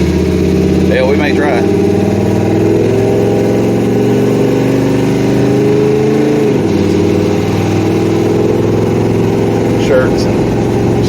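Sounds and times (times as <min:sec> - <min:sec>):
car engine driving: 0:00.0 - 0:11.0.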